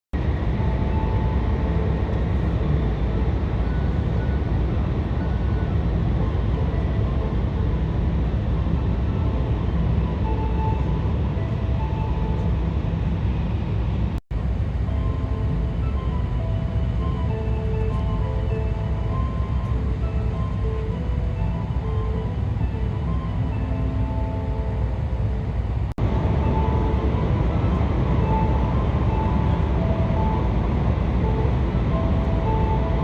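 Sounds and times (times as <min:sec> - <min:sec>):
train rumble and hiss: 0:00.2 - 0:33.0.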